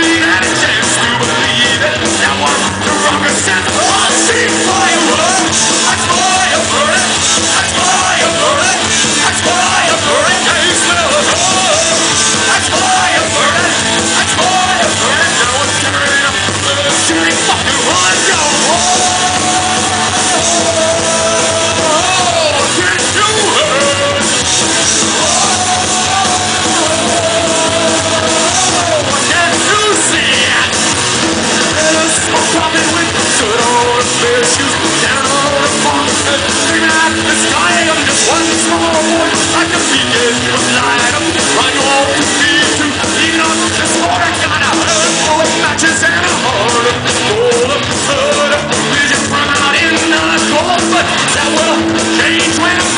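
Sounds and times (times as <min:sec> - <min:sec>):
person singing and shouting: 0:00.0 - 0:52.9
punk rock band playing: 0:00.0 - 0:52.9.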